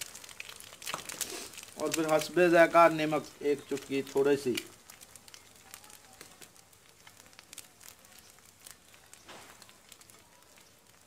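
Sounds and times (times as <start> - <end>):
faint sizzling with fine crackles: 0.0 - 11.0.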